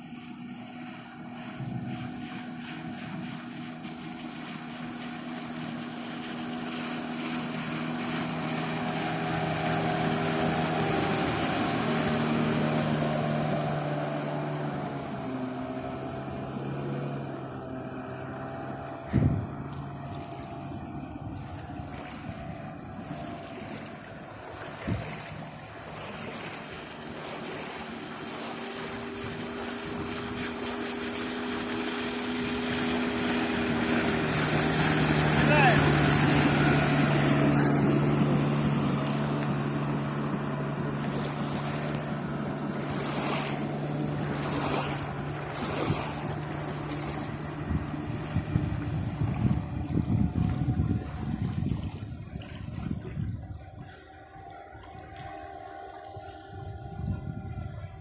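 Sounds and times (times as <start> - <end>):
outboard motor running: 0.0 - 58.0
water noise: 0.0 - 58.0
wind: 0.0 - 58.0.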